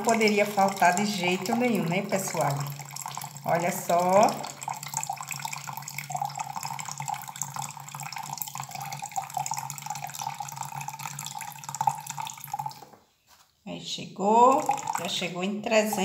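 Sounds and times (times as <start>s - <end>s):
liquid pouring into liquid: 0.0s - 13.0s, 14.4s - 16.0s.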